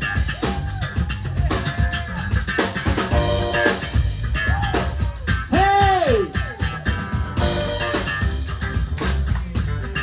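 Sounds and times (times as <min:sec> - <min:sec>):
drum kit beat: 0:00.0 - 0:10.0
live band playing instrumental: 0:00.0 - 0:10.0.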